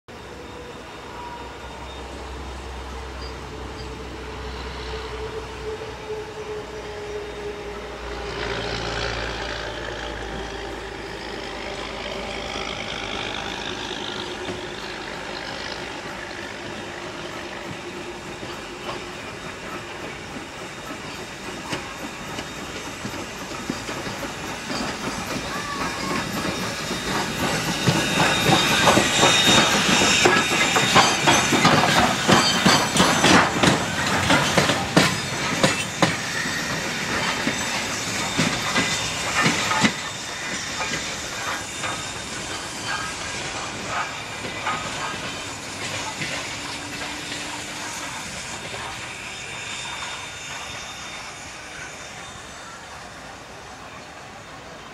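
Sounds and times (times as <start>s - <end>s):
steam hissing: 0.1s - 54.9s
steam locomotive passing: 0.1s - 54.9s
clanking of rods and wheels: 8.5s - 52.6s.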